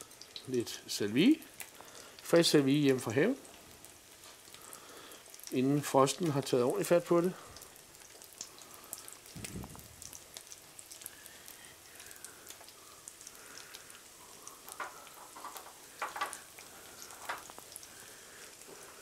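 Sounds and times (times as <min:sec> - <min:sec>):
fish sizzling in butter: 0:00.0 - 0:19.0.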